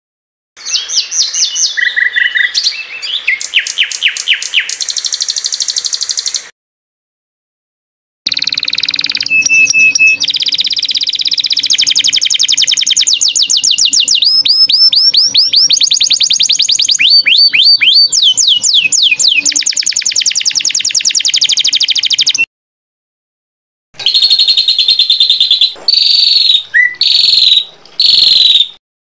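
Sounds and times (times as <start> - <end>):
songbird singing: 0.6 - 6.5, 8.3 - 22.5, 24.0 - 28.8.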